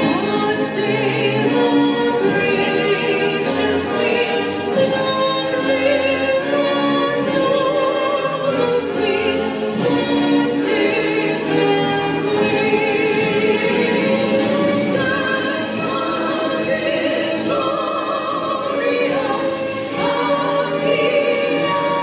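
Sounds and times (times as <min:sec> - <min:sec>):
backing music: 0:00.0 - 0:22.0
female trio singing harmony: 0:00.0 - 0:22.0.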